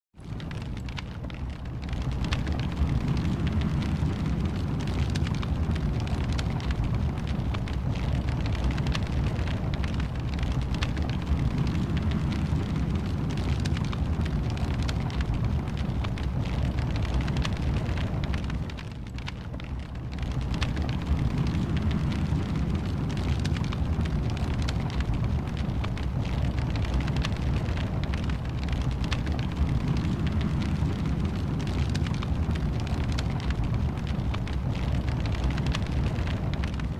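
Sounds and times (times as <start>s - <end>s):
wood fire crackling: 0.2s - 36.9s.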